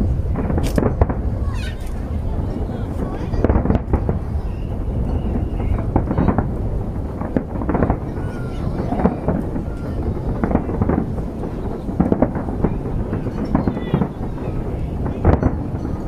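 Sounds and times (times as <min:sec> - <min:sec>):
fireworks bangs: 0:00.0 - 0:16.0
low rumble of explosions: 0:00.0 - 0:16.0.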